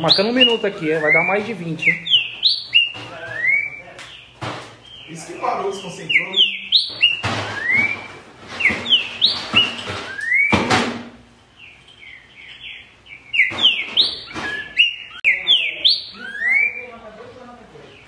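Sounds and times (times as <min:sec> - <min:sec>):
bird singing whistled phrases: 0:00.0 - 0:04.3, 0:04.9 - 0:10.6, 0:12.0 - 0:17.0.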